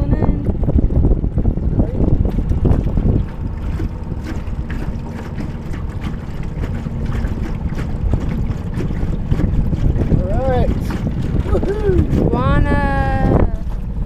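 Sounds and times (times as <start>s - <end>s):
water slapping against boat hull: 0.0s - 14.0s
wind buffeting microphone: 0.0s - 14.0s.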